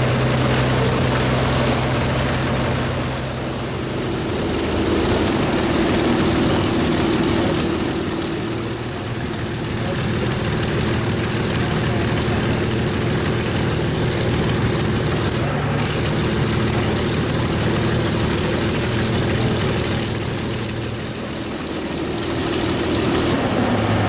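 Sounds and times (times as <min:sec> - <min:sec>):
aircraft engines idling: 0:00.0 - 0:24.0.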